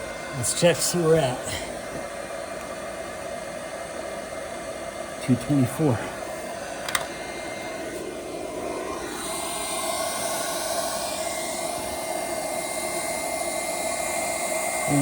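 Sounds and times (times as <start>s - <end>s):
faint high whine: 0.0s - 15.0s
induction heater fan whir: 0.0s - 15.0s.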